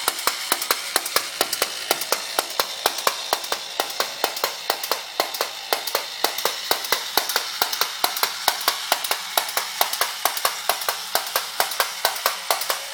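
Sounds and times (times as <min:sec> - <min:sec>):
toy mechanism clicking: 0:00.0 - 0:12.9
whirring hiss: 0:00.0 - 0:12.9.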